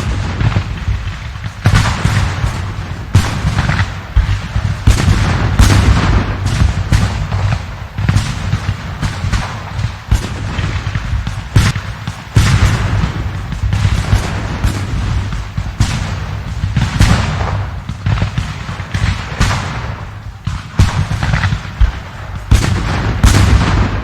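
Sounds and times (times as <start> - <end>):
gunfire-like blasts and booms: 0.0 - 24.0.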